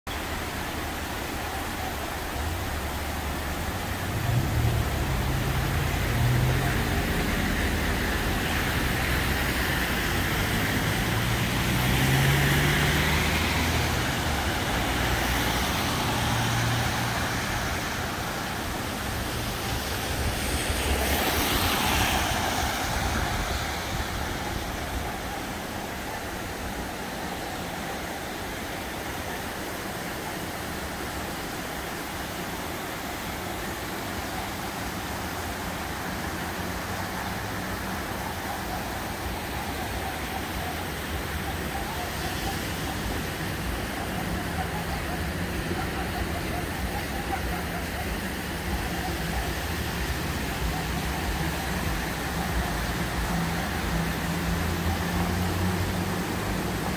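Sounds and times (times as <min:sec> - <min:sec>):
traffic on wet roads: 0:00.1 - 0:56.9.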